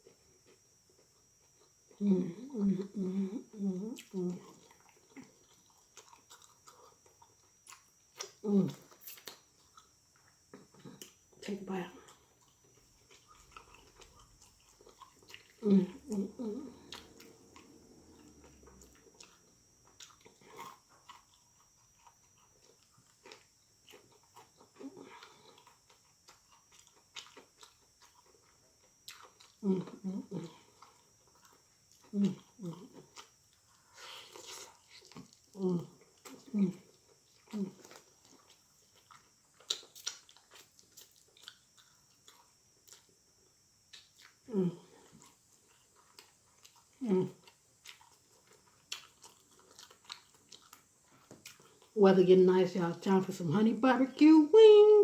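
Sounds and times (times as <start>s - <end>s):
chewing food with mouth smacks: 0.0s - 52.0s.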